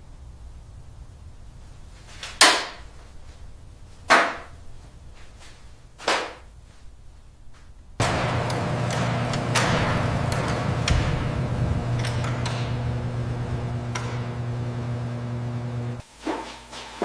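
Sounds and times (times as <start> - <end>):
steady hiss with low hum: 0.0 - 17.0.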